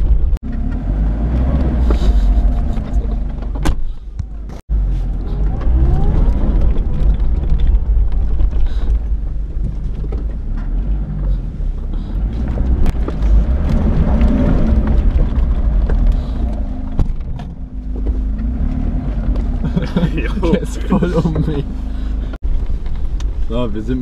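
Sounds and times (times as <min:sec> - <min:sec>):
vehicle engine rumbling: 0:00.0 - 0:24.0
vehicle knocks and rattles: 0:01.5 - 0:21.7.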